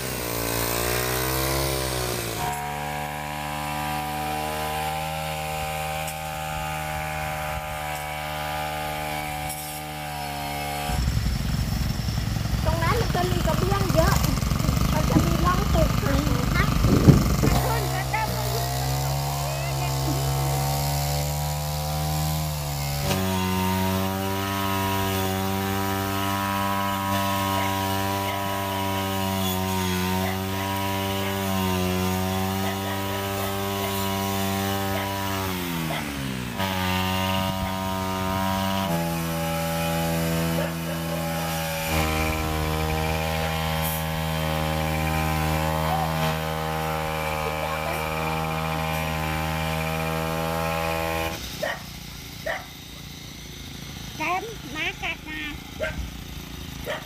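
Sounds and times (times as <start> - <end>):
brush cutter engine running fast: 0.0 - 57.0.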